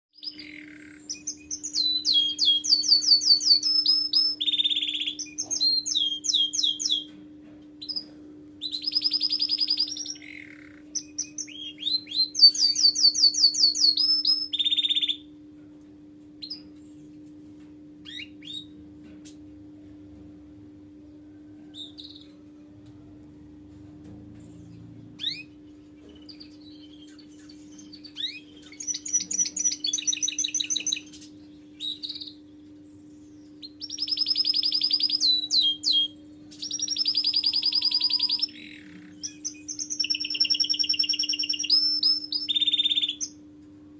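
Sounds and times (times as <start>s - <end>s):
canary singing: 0.2s - 7.2s, 7.8s - 15.3s, 16.4s - 16.8s, 18.0s - 18.9s, 21.5s - 23.4s, 24.3s - 43.5s
steady low hum: 0.2s - 43.9s.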